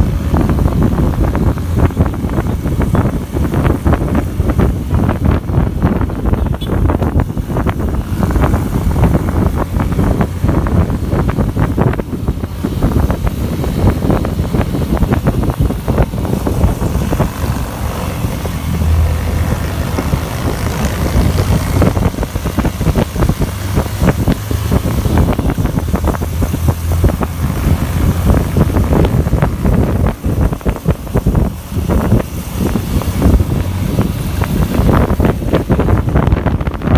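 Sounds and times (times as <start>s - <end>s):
motorcycle engine: 0.0s - 36.9s
road noise rumbling: 0.0s - 36.9s
wind buffeting microphone: 0.0s - 36.9s.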